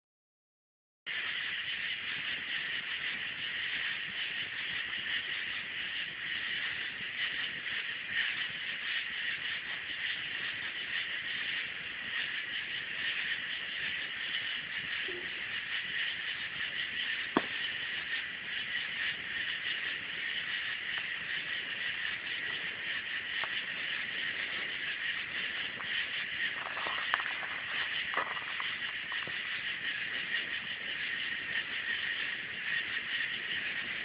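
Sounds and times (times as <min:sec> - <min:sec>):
campfire crackling and popping: 0:01.1 - 0:34.0
steady high hiss: 0:01.1 - 0:34.0.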